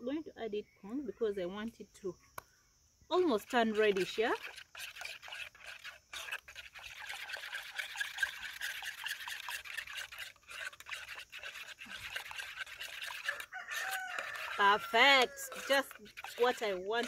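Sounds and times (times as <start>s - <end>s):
fingers stirring batter in metal bowl: 3.3s - 17.0s.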